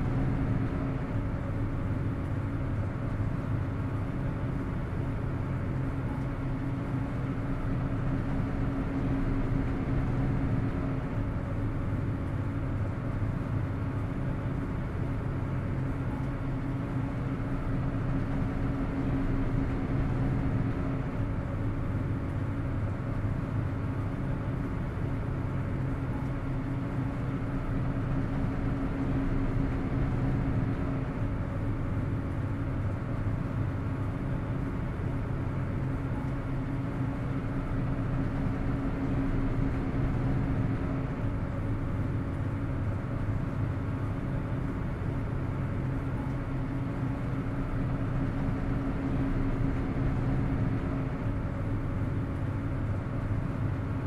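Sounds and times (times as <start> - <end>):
ferry engines droning: 0.0 - 54.0.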